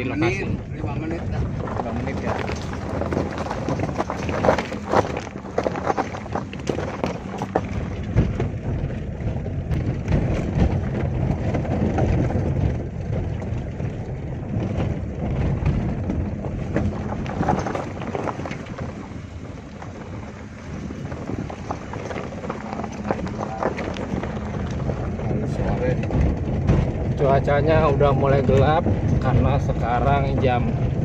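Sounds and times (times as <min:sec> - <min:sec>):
car engine and road rumble: 0:00.0 - 0:31.0
knocks and rattles from bumps: 0:00.0 - 0:31.0.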